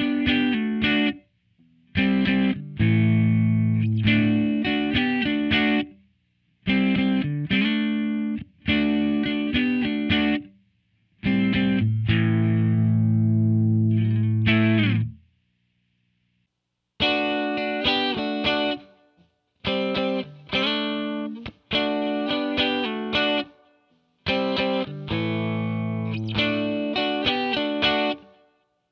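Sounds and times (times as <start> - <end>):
distorted electric guitar chords: 0.0 - 5.9, 6.7 - 10.5, 11.2 - 15.2, 17.0 - 19.0, 19.6 - 23.6, 24.2 - 28.4.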